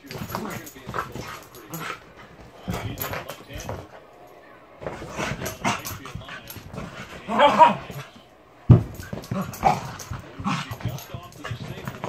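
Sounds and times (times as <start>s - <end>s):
dogs scuffling: 0.0s - 12.0s.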